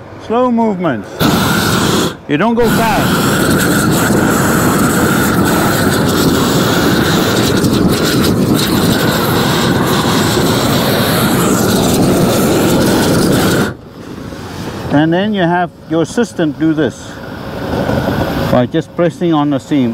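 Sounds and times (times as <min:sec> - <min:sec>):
roofing torch flame rushing: 0:01.2 - 0:15.4, 0:16.0 - 0:19.1.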